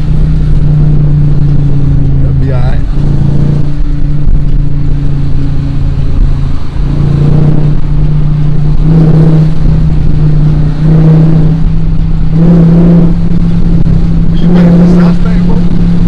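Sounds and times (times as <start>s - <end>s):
car engine revving: 0.0s - 16.0s
engine intake noise: 0.0s - 16.0s.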